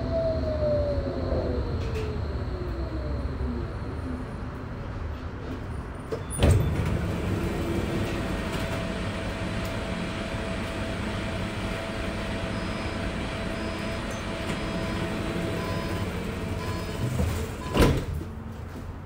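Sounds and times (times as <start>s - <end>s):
tram running noise: 0.0s - 19.0s.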